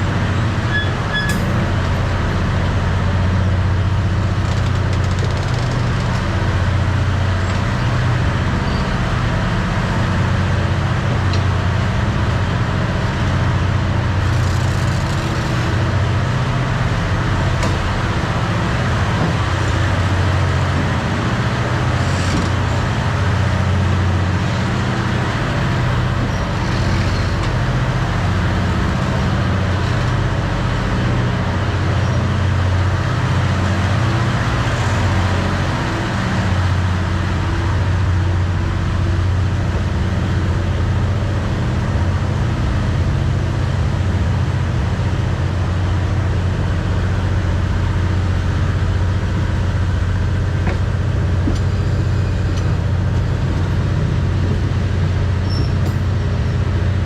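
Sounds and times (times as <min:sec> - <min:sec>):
vehicle engine drone: 0:00.0 - 0:57.0.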